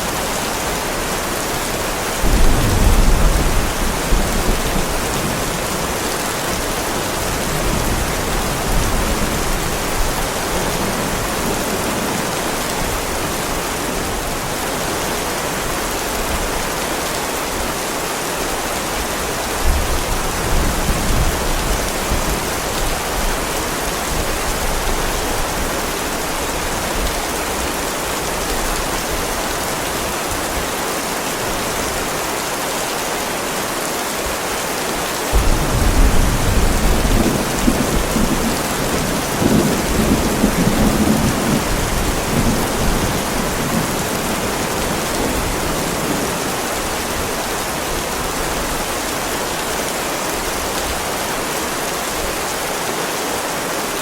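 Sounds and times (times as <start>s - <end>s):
heavy rain on pavement: 0.0s - 54.0s.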